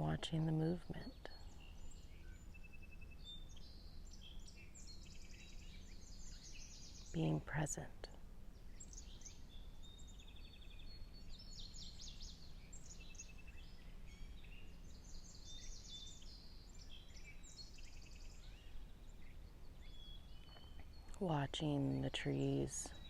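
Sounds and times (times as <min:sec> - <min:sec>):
birds chirping and singing: 0:00.0 - 0:07.8, 0:08.5 - 0:23.0.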